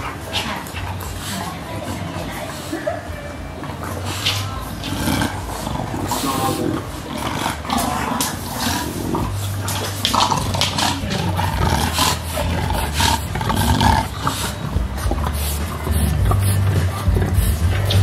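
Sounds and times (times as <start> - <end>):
dog breathing and grunting: 0.0 - 18.0.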